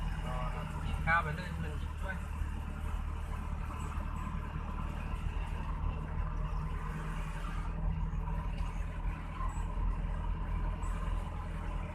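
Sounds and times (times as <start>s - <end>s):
vehicle engine and road noise: 0.0s - 11.9s.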